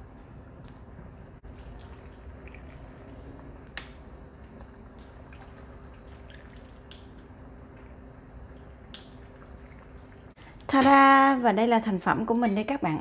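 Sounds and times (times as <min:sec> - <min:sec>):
broth bubbling with small pops: 0:00.1 - 0:10.8.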